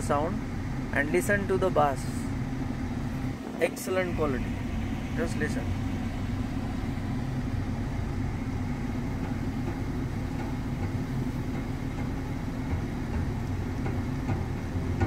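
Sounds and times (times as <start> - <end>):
low rumble inside car cabin: 0.0 - 15.0.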